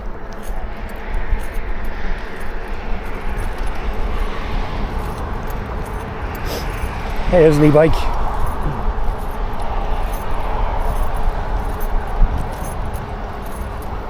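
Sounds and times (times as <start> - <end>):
wind and tyres rumbling: 0.0 - 14.0.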